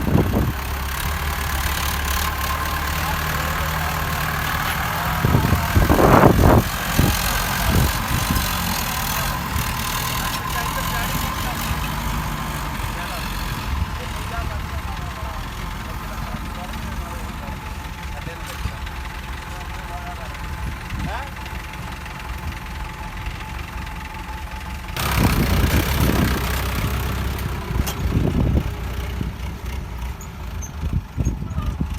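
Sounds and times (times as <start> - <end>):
tractor diesel engine running: 0.0 - 31.9.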